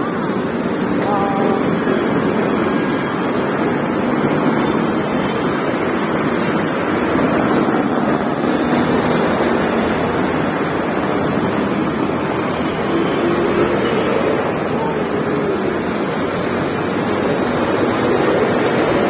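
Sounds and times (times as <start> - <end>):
buses passing: 0.0 - 19.0
busy road traffic: 0.0 - 19.0
motorcycles passing: 0.0 - 19.0.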